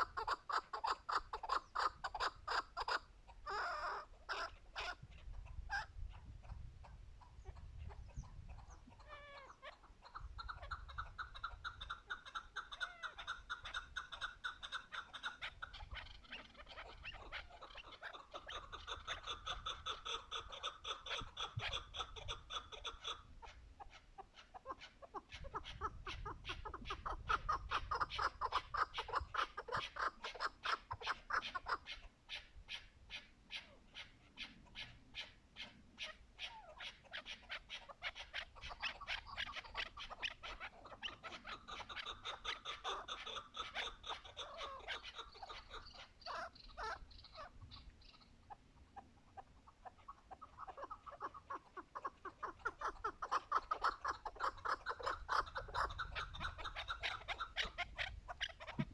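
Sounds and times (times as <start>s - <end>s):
partridge clucking calls: 0.0s - 58.9s.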